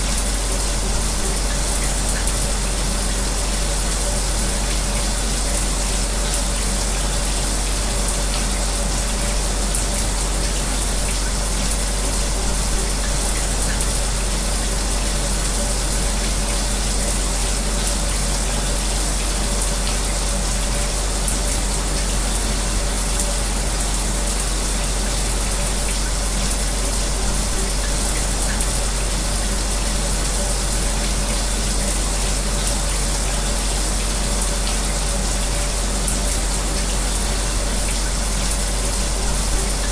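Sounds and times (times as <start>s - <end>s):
shower spray running: 0.0s - 39.9s.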